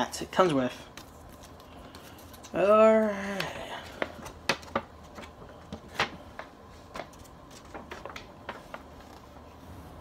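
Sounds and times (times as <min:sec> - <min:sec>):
paper rustling and crinkling: 0:00.7 - 0:03.1, 0:03.8 - 0:09.9.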